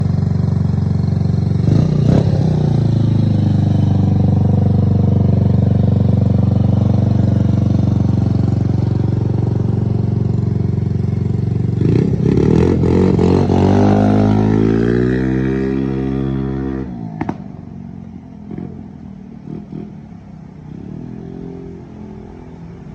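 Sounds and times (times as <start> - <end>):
scooter engine idling and revving: 0.0 - 22.9.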